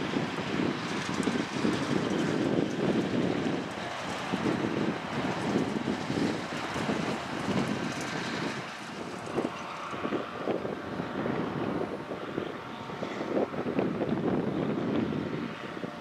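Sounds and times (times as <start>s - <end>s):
farm machinery engines droning: 0.0s - 16.0s
wind buffeting microphone: 0.0s - 16.0s.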